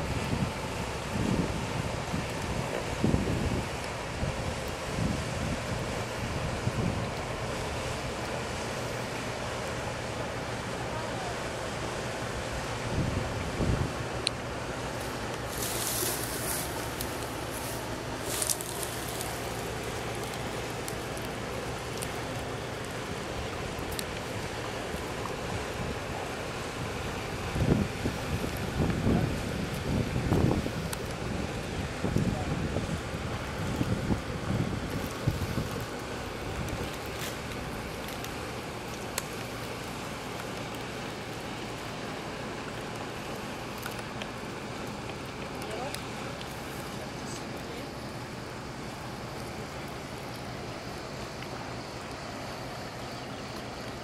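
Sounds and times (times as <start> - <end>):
barge diesel engine droning: 0.0 - 54.0
river water rushing: 0.0 - 54.0
wind hiss on microphone: 0.0 - 54.0.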